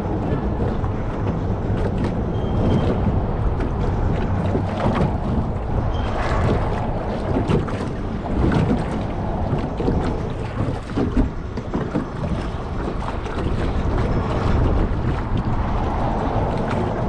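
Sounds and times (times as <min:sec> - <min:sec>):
water slapping against hull: 0:00.0 - 0:17.0
wind buffeting microphone: 0:00.0 - 0:17.0.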